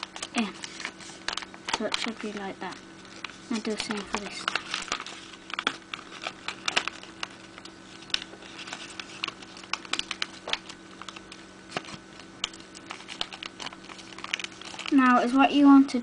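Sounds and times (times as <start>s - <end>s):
paper rustling and crackling: 0.0s - 15.4s
faint steady hum: 0.0s - 16.0s.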